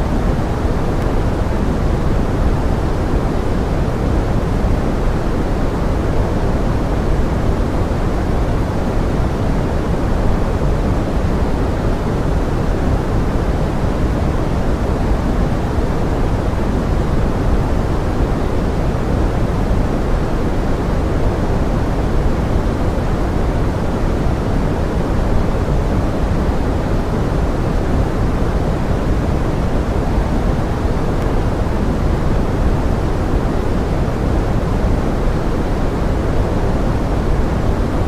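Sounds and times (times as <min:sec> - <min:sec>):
steady rain-like hiss: 0:00.0 - 0:38.0.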